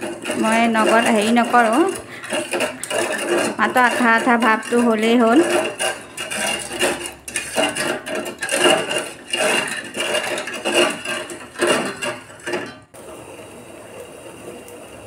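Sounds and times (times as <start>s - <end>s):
spoon scraping a saucepan: 0.0s - 12.9s
syrup boiling hiss: 0.0s - 15.0s.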